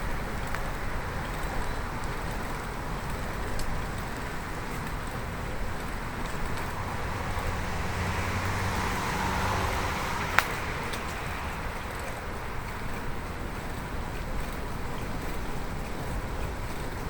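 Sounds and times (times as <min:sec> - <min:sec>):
car passing: 0:00.0 - 0:16.9
road and wind noise: 0:00.0 - 0:17.0.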